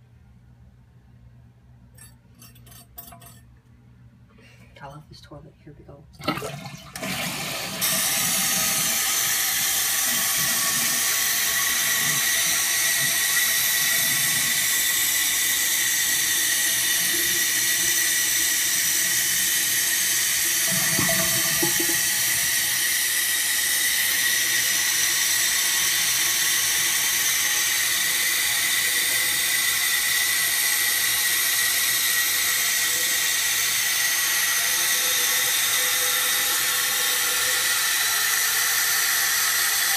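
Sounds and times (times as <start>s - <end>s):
toilet fill valve hissing: 6.2s - 39.9s.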